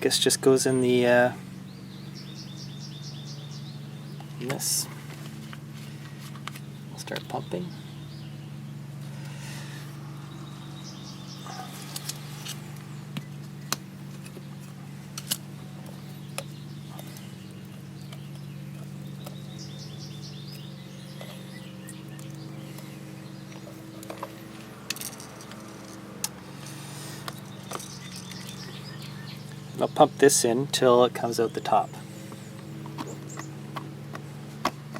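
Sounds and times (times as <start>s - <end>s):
small birds chirping: 0.0s - 34.9s
steady low hum: 0.0s - 34.9s.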